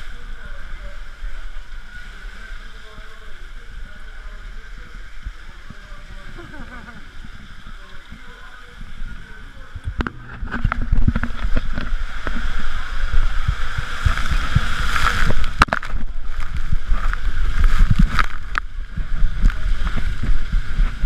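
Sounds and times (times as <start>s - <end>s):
water rushing in waterslide: 0.0s - 21.0s.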